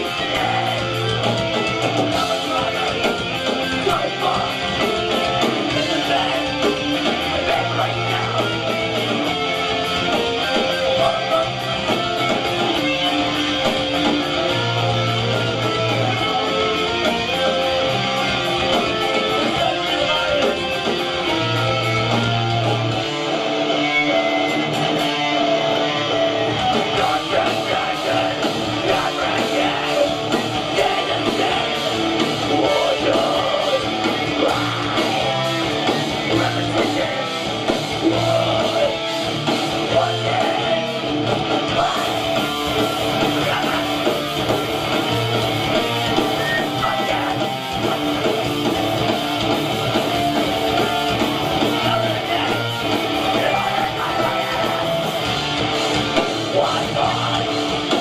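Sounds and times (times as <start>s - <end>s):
bass guitar: 0.0s - 58.0s
distorted electric guitars: 0.0s - 58.0s
drums: 0.0s - 58.0s.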